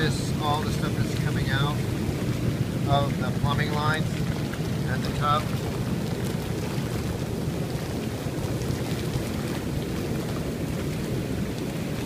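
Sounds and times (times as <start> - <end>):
hot tub jets churning water: 0.0 - 12.0.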